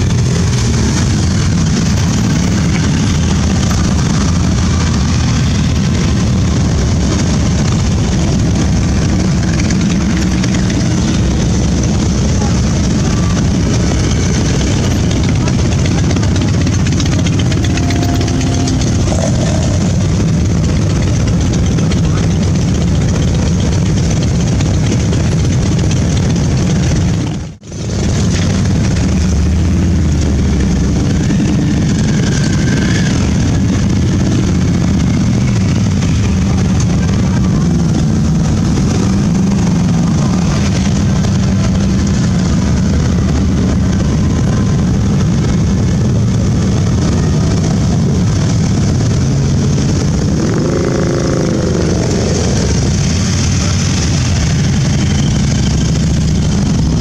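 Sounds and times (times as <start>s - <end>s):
motorcycle engines droning: 0.0s - 57.0s.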